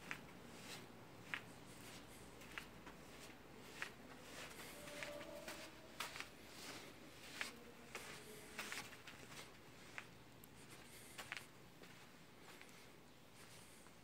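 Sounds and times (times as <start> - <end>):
footsteps on sand: 0.0 - 13.6.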